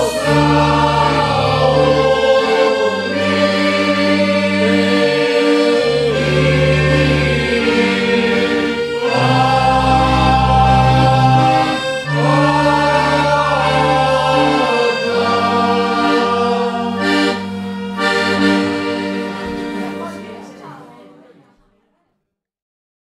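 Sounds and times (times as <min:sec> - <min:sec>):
slow procession music: 0:00.0 - 0:21.5.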